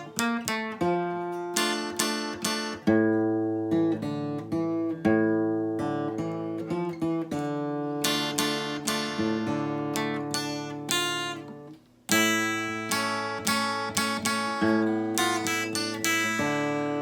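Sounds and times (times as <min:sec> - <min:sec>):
plucked acoustic guitar melody: 0:00.0 - 0:17.0
strummed guitar chords: 0:00.0 - 0:17.0.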